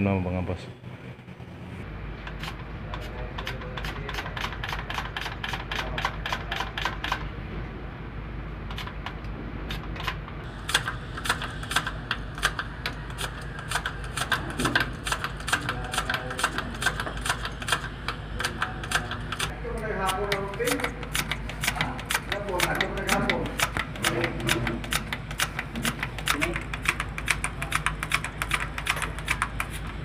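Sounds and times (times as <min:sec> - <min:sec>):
low machinery hum: 0:00.0 - 0:30.0
rapid mechanical ticking: 0:02.2 - 0:07.4, 0:08.6 - 0:30.0.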